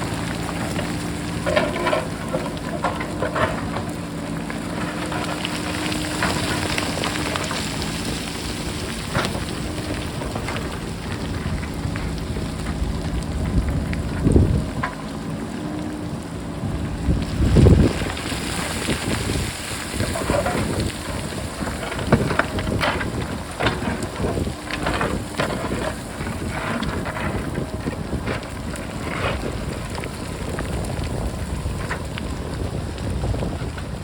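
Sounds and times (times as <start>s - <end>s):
rocks clattering and rolling: 0.0s - 16.0s, 16.8s - 34.0s
diesel engine running: 0.0s - 34.0s
wind buffeting microphone: 0.0s - 34.0s.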